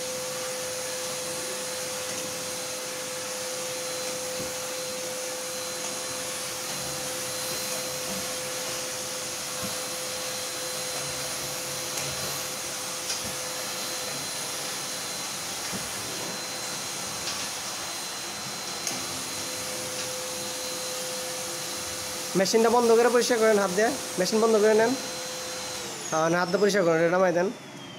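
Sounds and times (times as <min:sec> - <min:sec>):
cleaning machine air rushing: 0:00.0 - 0:27.9.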